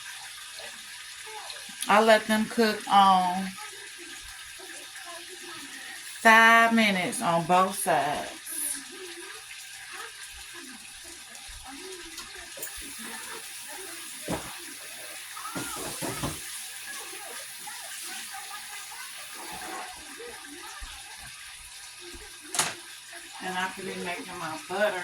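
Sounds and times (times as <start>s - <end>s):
steaks sizzling in a hot pan: 0.0s - 25.0s.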